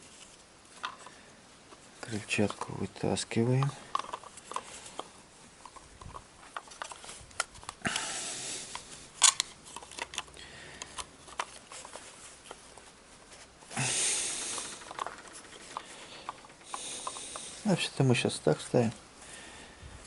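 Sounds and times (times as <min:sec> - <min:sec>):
small clicks and scrapes of parts: 0:00.0 - 0:19.0.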